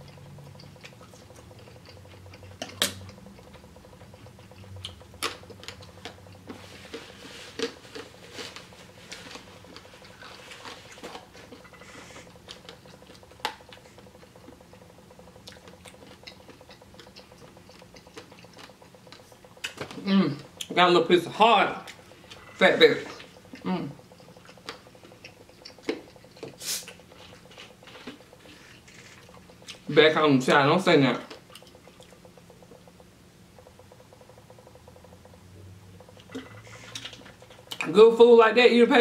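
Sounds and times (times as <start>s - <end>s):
person chewing: 0.0s - 29.9s, 31.2s - 32.9s, 36.0s - 37.9s.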